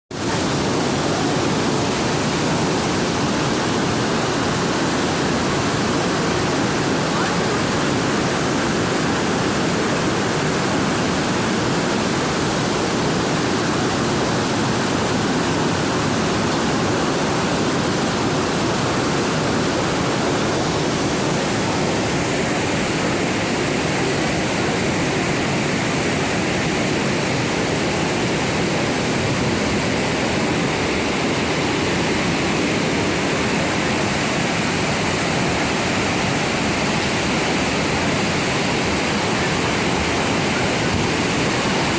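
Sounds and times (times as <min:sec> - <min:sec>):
waterfall roaring: 0:00.1 - 0:41.9.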